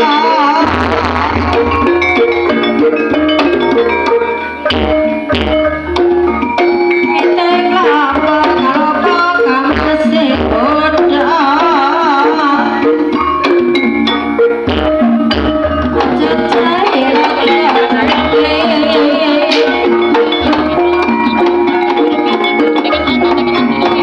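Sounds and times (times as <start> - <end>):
hand drum strokes: 0.0 - 24.0
struck metal notes: 0.0 - 24.0
wavering melodic line: 0.0 - 24.0.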